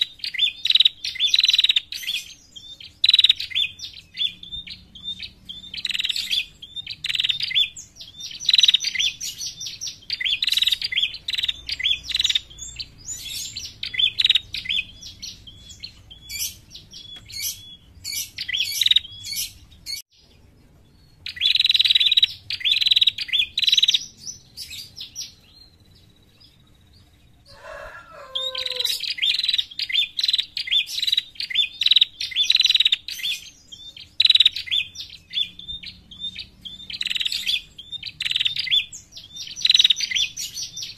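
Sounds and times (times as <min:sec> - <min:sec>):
bird chirping rapidly: 0:00.0 - 0:40.9.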